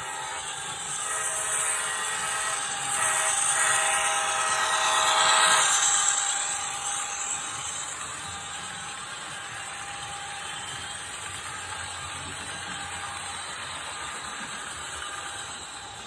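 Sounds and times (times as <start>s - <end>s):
model locomotive running sound: 0.0s - 16.0s.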